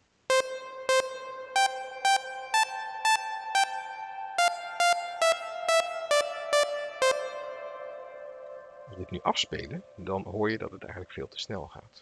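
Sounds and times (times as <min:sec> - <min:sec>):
synthesizer notes with reverb: 0:00.0 - 0:10.1.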